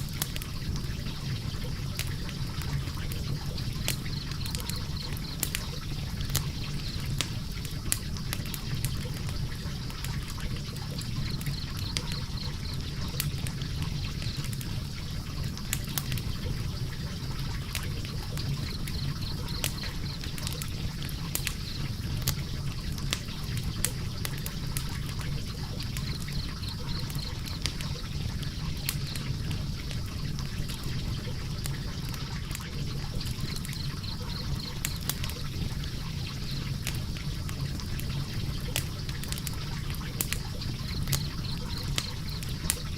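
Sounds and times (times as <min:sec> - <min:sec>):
fireplace flames rushing: 0:00.0 - 0:42.9
logs crackling and popping: 0:00.0 - 0:42.9.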